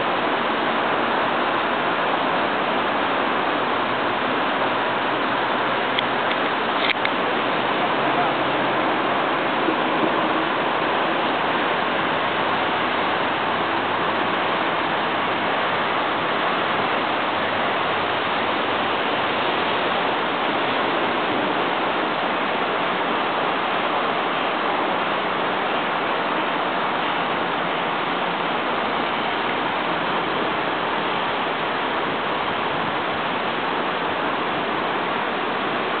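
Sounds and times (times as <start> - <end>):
steady rushing noise: 0.0 - 36.0.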